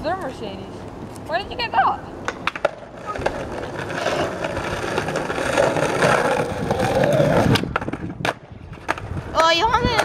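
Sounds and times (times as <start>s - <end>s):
skateboard wheels rolling on concrete: 0.0s - 10.0s.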